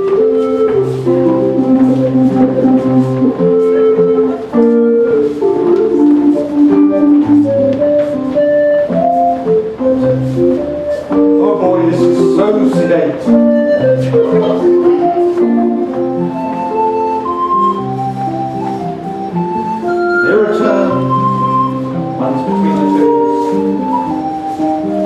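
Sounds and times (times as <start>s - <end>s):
instrumental country dance tune: 0.0s - 25.0s.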